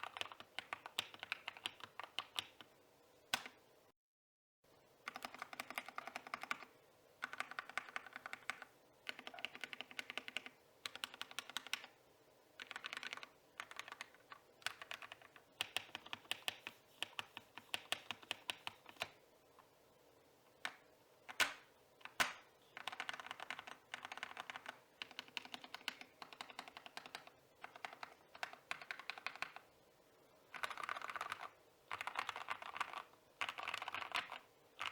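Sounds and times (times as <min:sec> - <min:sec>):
mechanical keyboard typing: 0:00.0 - 0:02.7, 0:05.1 - 0:12.0, 0:12.6 - 0:19.2, 0:20.6 - 0:29.7, 0:30.5 - 0:34.9.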